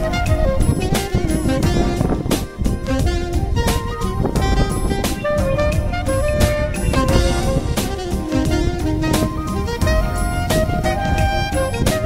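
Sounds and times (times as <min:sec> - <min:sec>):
upbeat jazz music: 0:00.0 - 0:12.0.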